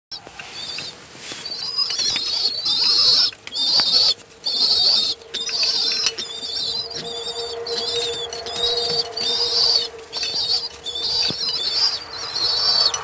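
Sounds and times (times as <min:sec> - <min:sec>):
pigeon squabs squeaking: 0:00.1 - 0:13.0
beaks tapping a dish: 0:01.5 - 0:13.0.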